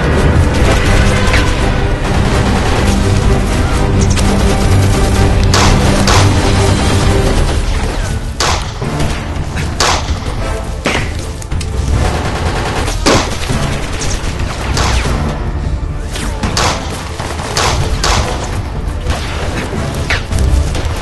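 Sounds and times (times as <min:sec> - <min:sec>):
gunshots: 0:00.0 - 0:15.4, 0:16.1 - 0:21.0
background music: 0:00.0 - 0:21.0.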